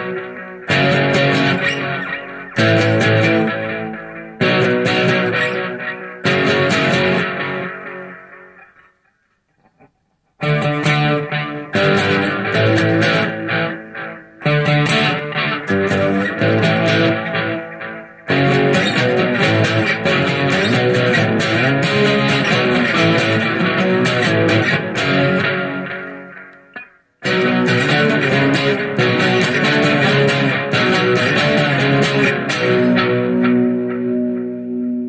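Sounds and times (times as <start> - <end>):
overdriven electric guitar: 0.0 - 35.0.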